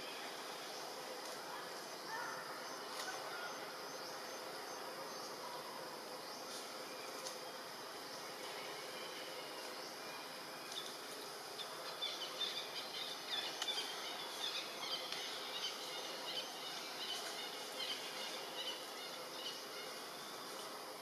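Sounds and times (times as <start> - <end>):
insects chirping: 0.0 - 21.0
steady forest hiss: 0.0 - 21.0.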